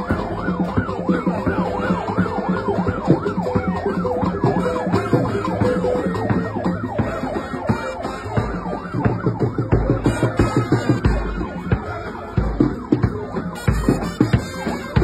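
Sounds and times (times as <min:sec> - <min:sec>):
music with beat: 0:00.0 - 0:15.0
siren sweeping up and down: 0:00.0 - 0:15.0.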